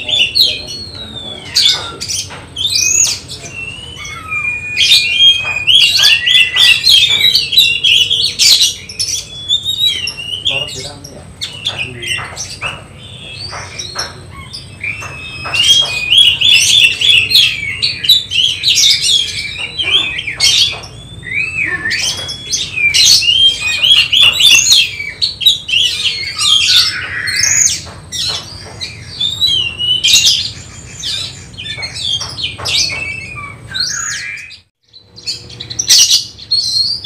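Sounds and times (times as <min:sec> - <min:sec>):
bird singing whistles: 0:00.2 - 0:10.7, 0:11.4 - 0:27.8, 0:29.0 - 0:34.7.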